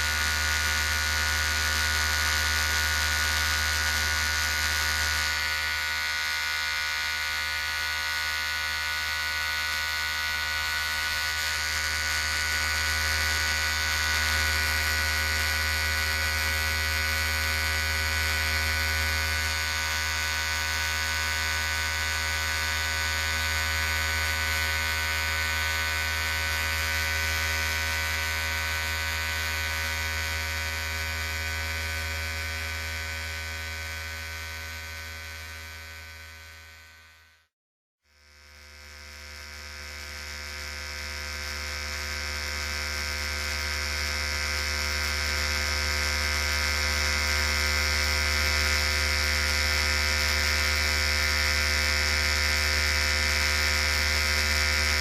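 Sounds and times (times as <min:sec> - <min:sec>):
electric hair clippers buzzing: 0:00.0 - 0:37.5, 0:38.1 - 0:55.0.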